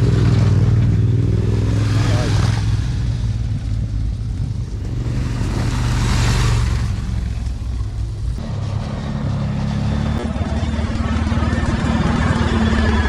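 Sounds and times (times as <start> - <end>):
road noise: 0.0 - 13.0
vehicle engine running: 0.0 - 13.0
rushing swell: 1.3 - 13.0.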